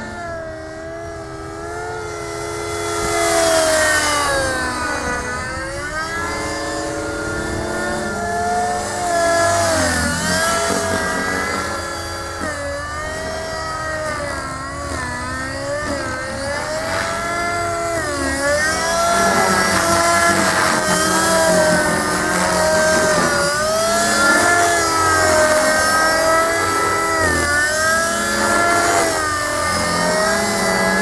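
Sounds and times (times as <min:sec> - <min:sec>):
rc helicopter whine: 0:00.0 - 0:31.0.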